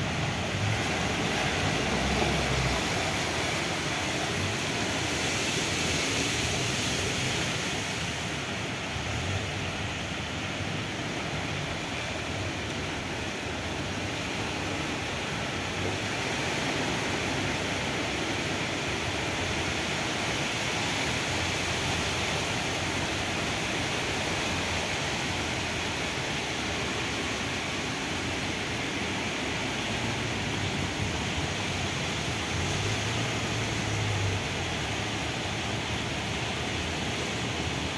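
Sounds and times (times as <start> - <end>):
floodwater rushing: 0.0 - 37.9
vehicles wading through water: 0.0 - 37.9.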